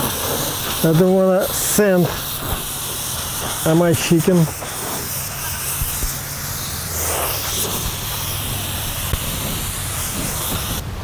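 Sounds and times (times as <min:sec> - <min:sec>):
aerosol spray hiss: 0:00.0 - 0:10.8.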